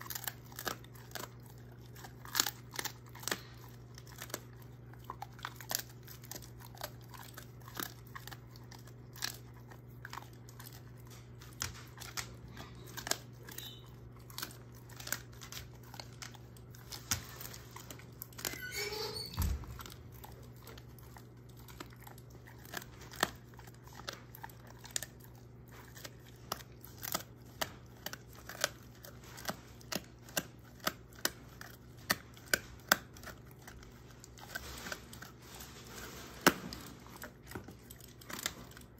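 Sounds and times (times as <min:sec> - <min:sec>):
dog chewing hard treat: 0:00.0 - 0:38.9.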